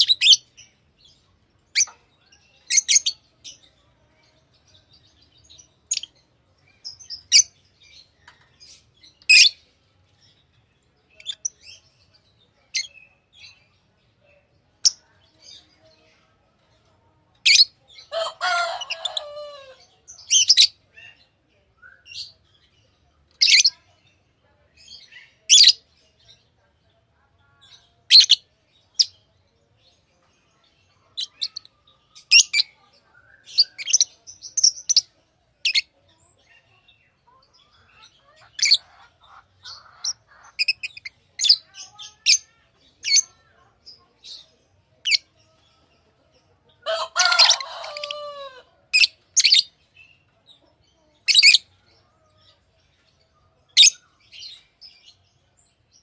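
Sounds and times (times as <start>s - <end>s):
lovebirds chirping: 0.0s - 16.4s, 27.4s - 56.0s.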